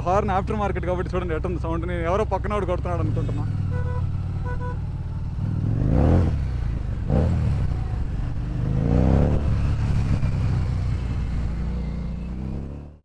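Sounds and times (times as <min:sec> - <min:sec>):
motorcycle engine accelerating: 0:02.6 - 0:13.0.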